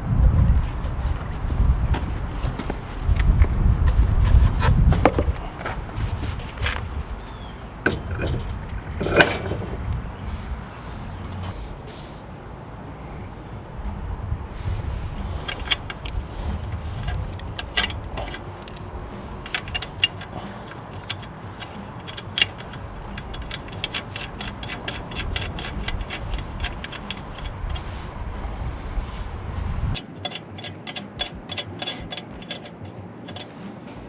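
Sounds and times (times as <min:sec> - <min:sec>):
metal tools clicking and clinking: 0:00.0 - 0:13.4, 0:14.5 - 0:34.0
low steady rumble: 0:00.0 - 0:30.0.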